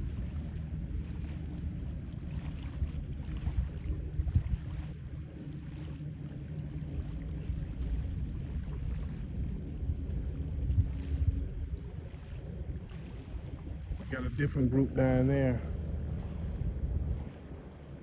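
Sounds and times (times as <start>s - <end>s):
distant jet ski engines droning: 0.0s - 18.0s
wind rumbling on microphone: 0.0s - 18.0s.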